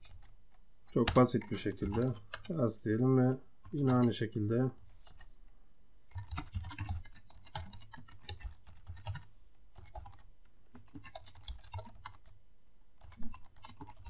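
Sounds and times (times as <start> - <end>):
typing on computer keyboard: 0.0 - 2.7, 3.6 - 5.3, 6.1 - 12.4, 13.0 - 14.0.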